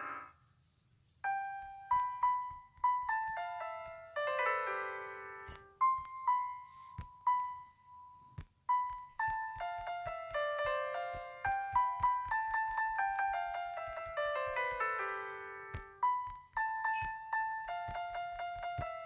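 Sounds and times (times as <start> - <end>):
piano music: 1.0 - 19.0.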